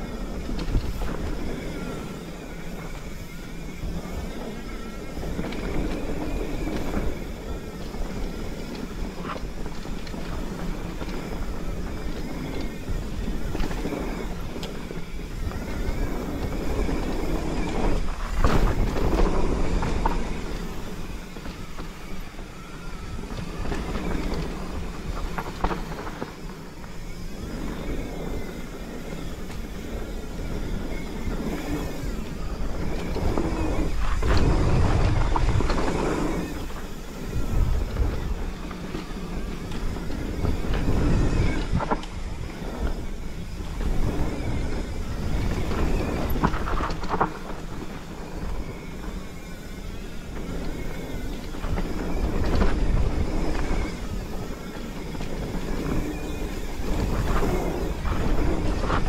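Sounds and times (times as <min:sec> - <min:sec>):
tyres rumbling over dirt: 0:00.0 - 0:59.0
wind on microphone: 0:00.0 - 0:59.0.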